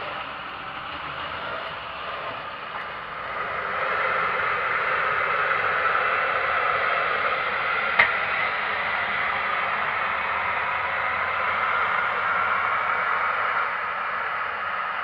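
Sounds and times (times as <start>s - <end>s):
tractor hissing rush: 0.0s - 15.0s.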